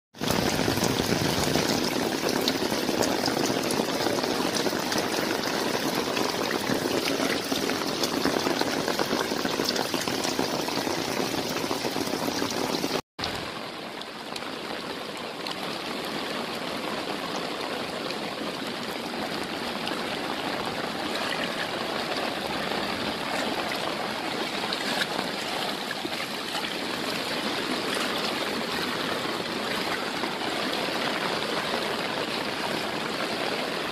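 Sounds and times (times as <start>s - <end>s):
heavy rain pouring: 0.2s - 33.9s.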